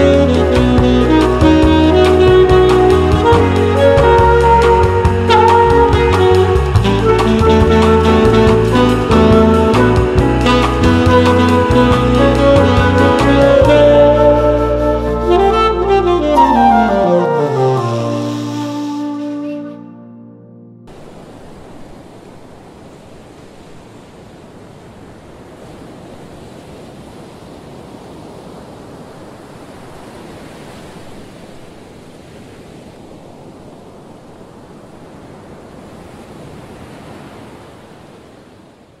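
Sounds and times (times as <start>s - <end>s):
ocean surf washing on shore: 0.0s - 19.8s, 20.9s - 39.0s.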